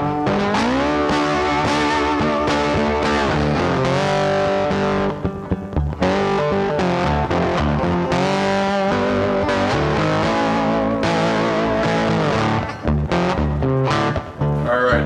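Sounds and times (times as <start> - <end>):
bass: 0.0 - 15.0
distorted electric guitar music: 0.0 - 15.0.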